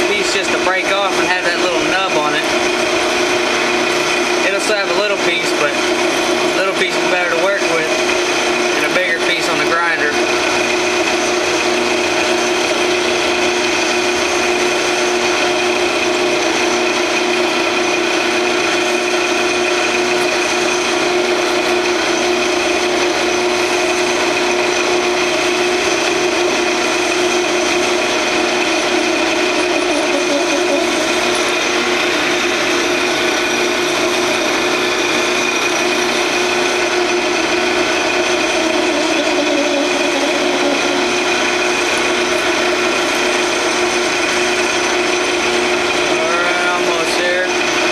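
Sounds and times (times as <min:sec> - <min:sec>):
metal lathe whining: 0:00.0 - 0:47.9.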